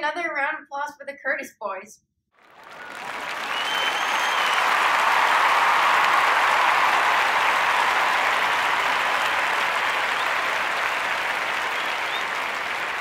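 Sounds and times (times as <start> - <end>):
crowd applauding: 2.4 - 13.0.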